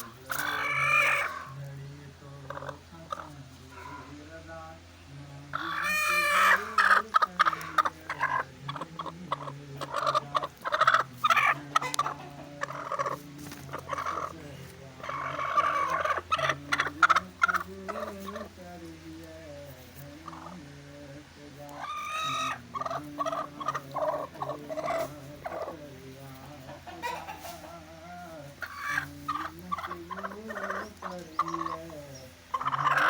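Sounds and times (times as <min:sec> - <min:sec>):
poultry calling: 0:00.0 - 0:33.0
steady low hum: 0:00.0 - 0:33.0.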